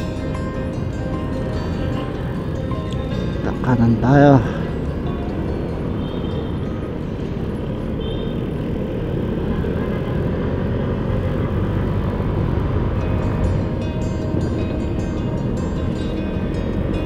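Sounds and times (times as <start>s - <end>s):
road and wind rush: 0.0s - 17.0s
scooter engine running: 0.0s - 17.0s.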